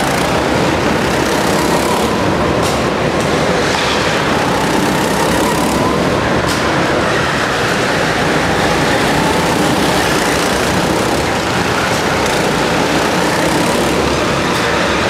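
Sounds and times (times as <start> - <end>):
go-kart engines racing: 0.0 - 15.0.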